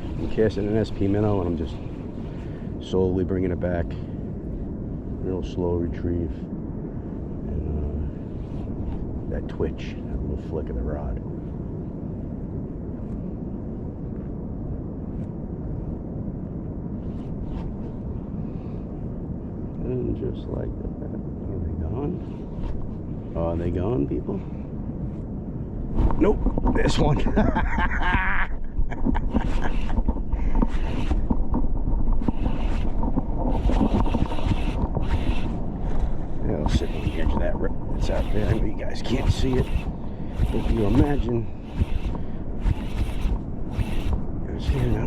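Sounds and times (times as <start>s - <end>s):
wind rumble: 0.0s - 45.0s.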